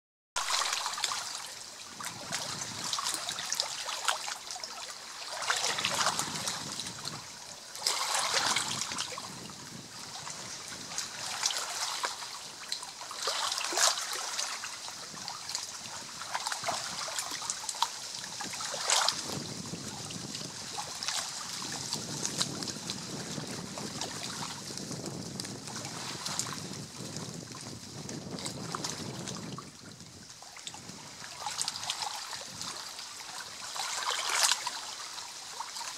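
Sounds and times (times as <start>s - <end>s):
small waves lapping on stony shore: 0.4s - 35.9s.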